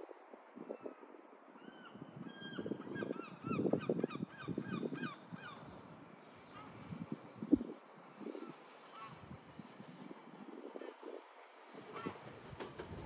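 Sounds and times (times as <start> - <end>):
wind gusts on microphone: 0.0 - 13.0.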